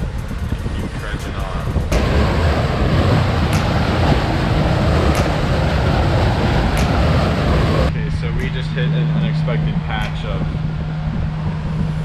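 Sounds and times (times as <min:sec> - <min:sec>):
wind buffeting microphone: 0:00.0 - 0:12.0
water rushing along a hull: 0:01.6 - 0:12.0.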